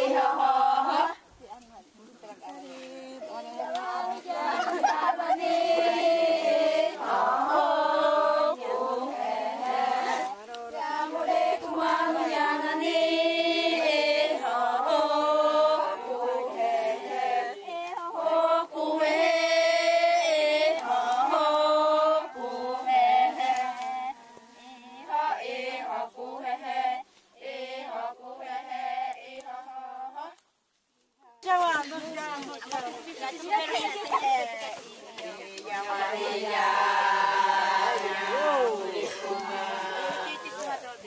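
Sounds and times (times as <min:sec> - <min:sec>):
women chanting in unison: 0:00.0 - 0:30.4, 0:31.4 - 0:41.0.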